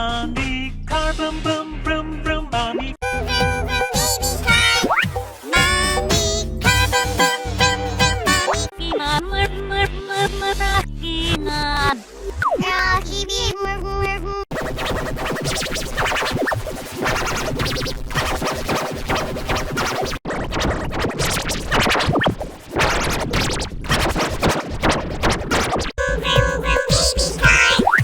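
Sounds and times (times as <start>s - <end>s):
distorted stuttering children's song: 0.0s - 20.8s, 25.6s - 28.0s.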